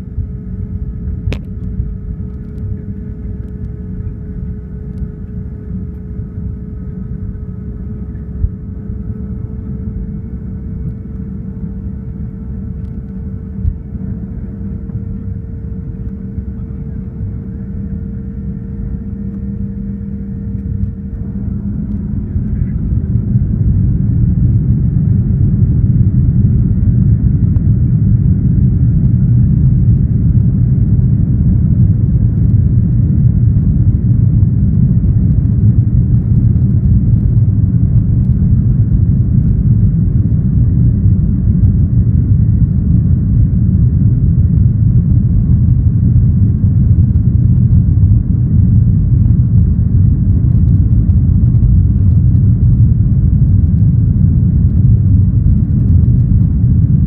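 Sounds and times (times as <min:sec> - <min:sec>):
jet cabin hum: 0:00.0 - 0:57.0
jet engines roaring on takeoff: 0:00.0 - 0:57.0
thin engine whine: 0:00.0 - 0:57.0.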